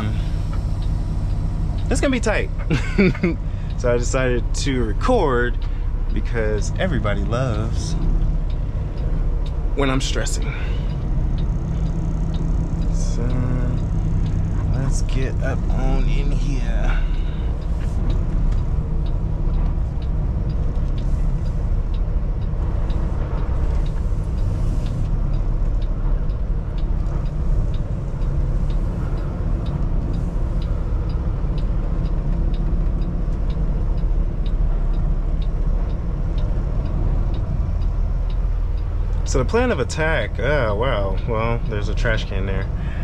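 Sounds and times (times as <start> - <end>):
diesel truck engine running: 0.0 - 43.0
light regular ticking: 0.0 - 43.0.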